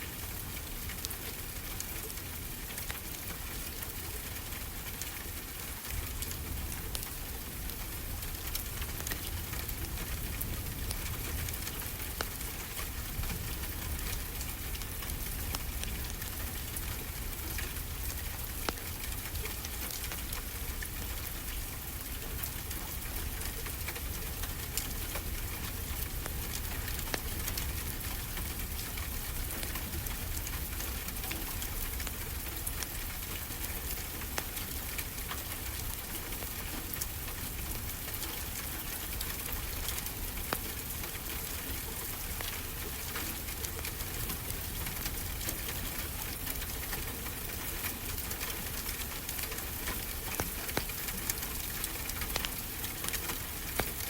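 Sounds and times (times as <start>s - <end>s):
wood fire crackling: 5.8s - 54.0s.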